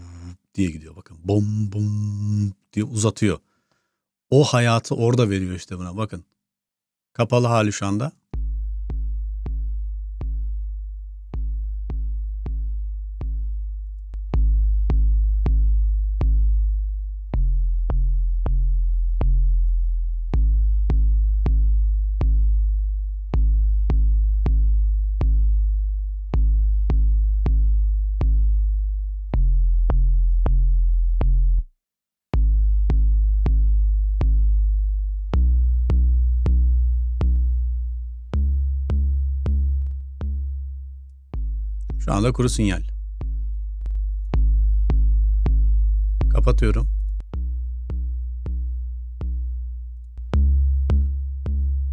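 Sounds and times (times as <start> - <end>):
deep booming sub-bass notes: 8.3 - 31.7, 32.4 - 51.9.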